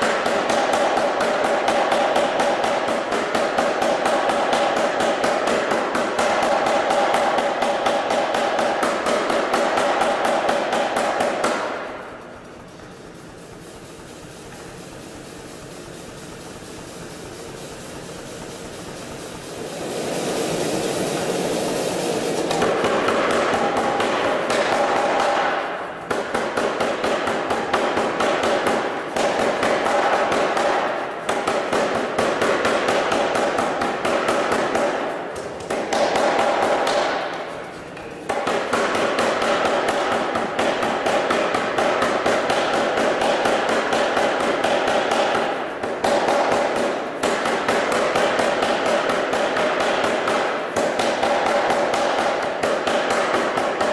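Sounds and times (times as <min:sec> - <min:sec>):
air hammer forging blows: 0:00.0 - 0:53.9.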